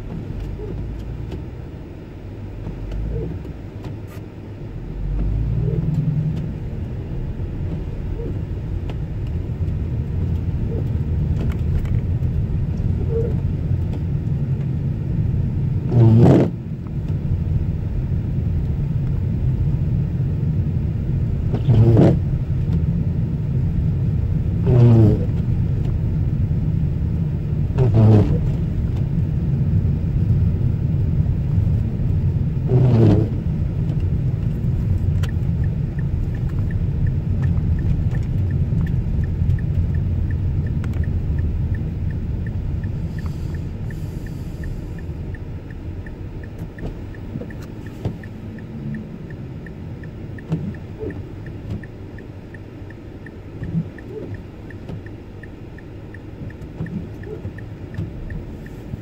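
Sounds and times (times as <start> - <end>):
tyres and engine rumbling: 0.0 - 59.0
windshield wipers sweeping: 0.0 - 59.0.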